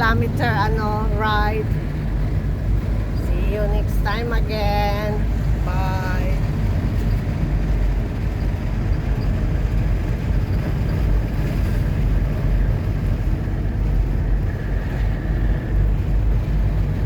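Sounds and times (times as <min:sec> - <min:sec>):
car road noise and engine drone: 0:00.0 - 0:17.0.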